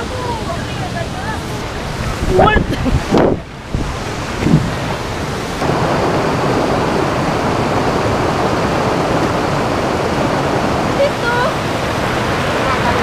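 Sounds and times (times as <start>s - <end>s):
river rapids rushing over boulders: 0.0s - 13.0s.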